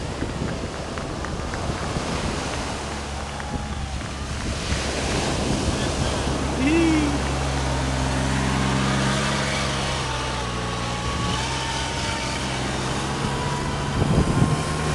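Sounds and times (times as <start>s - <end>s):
utility vehicle engine running: 0.0s - 14.9s.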